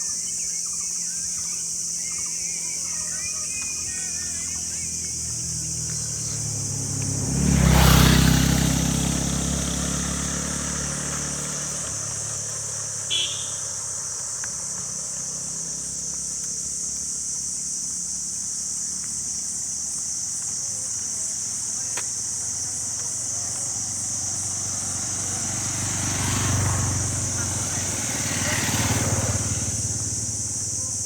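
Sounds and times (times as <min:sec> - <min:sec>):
high-pitched insect chorus: 0:00.0 - 0:31.0
motor vehicle passing by: 0:00.2 - 0:31.0.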